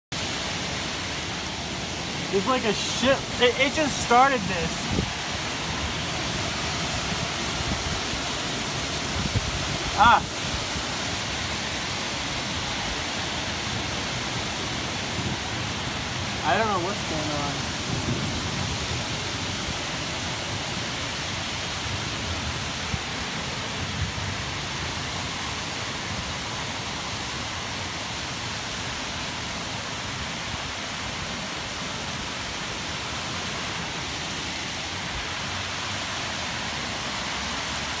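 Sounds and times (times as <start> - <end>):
rain pouring: 0.1 - 38.0.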